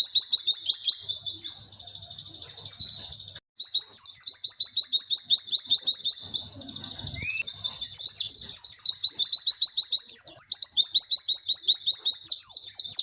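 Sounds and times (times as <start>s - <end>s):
bird chirping rapidly: 0.0s - 13.0s.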